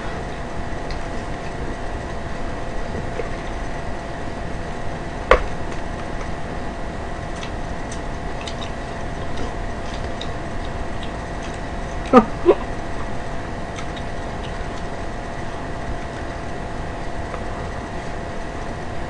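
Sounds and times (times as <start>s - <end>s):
steady hum and hiss: 0.0s - 19.0s.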